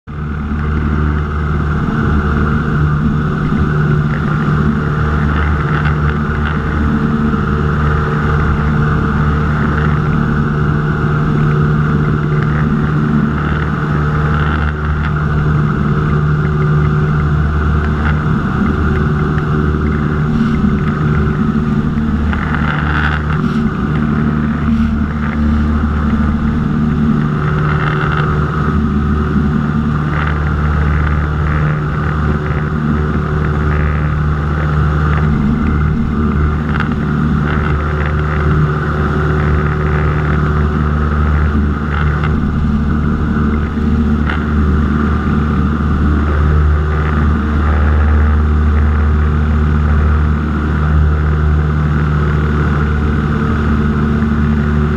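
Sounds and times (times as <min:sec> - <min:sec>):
light aircraft engine drone: 0:00.0 - 0:54.9.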